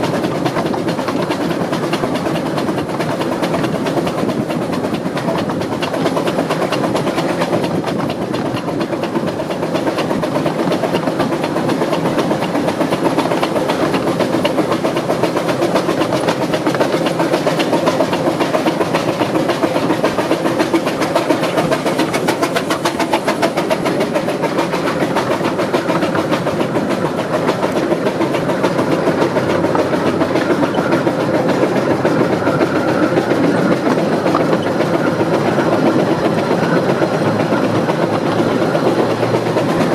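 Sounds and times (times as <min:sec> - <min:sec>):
steam locomotive exhaust beats: 0:00.0 - 0:39.9.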